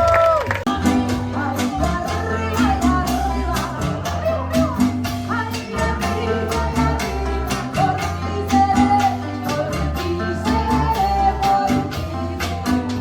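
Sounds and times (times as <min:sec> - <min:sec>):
bass and melody instruments: 0:00.0 - 0:13.0
percussion beat: 0:00.0 - 0:13.0.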